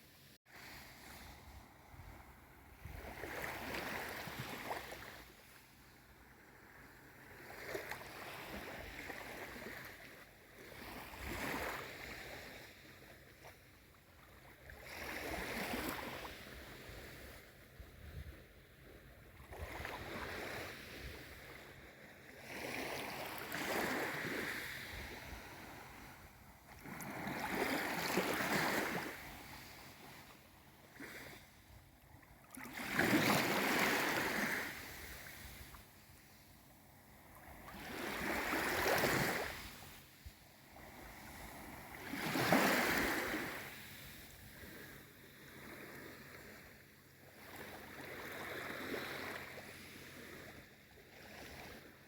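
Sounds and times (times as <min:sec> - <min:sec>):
small waves washing in: 0:00.5 - 0:52.0.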